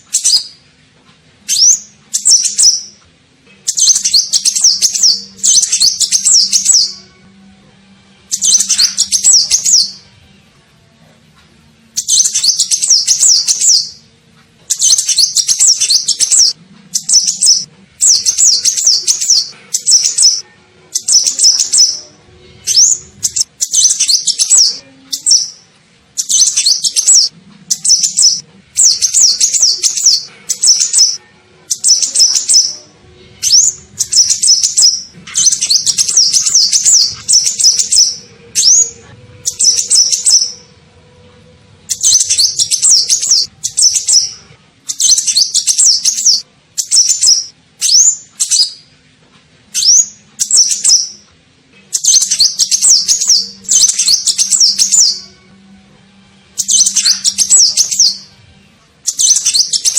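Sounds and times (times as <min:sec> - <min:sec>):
bird twittering song: 0:00.0 - 0:00.6, 0:01.4 - 0:03.0, 0:03.7 - 0:07.0, 0:08.3 - 0:10.0, 0:12.0 - 0:14.0, 0:14.7 - 0:25.6, 0:26.2 - 0:32.8, 0:33.4 - 0:40.7, 0:41.9 - 0:48.9, 0:49.8 - 0:51.3, 0:51.9 - 0:55.3, 0:56.6 - 0:58.3, 0:59.1 - 0:59.9.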